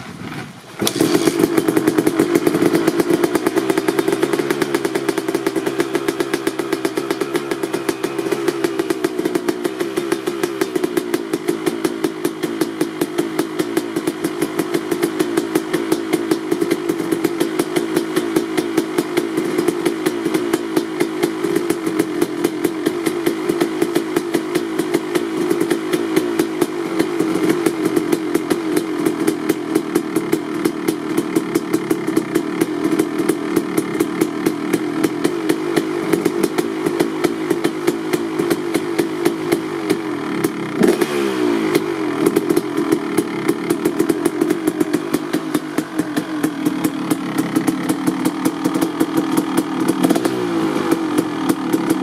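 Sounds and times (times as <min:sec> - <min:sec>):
two-stroke engine idling: 0:00.8 - 0:52.0.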